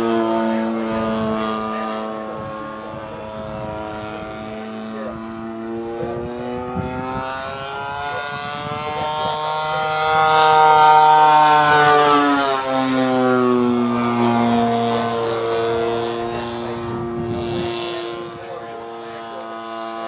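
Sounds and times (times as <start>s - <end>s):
model plane engine flying past: 0.0s - 20.0s.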